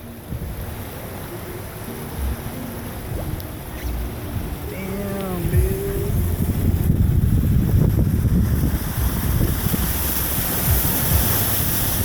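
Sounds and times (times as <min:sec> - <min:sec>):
floodwater rushing: 0:00.0 - 0:12.0
low steady rumble: 0:00.0 - 0:12.0
wind buffeting microphone: 0:00.2 - 0:01.0, 0:03.0 - 0:12.0.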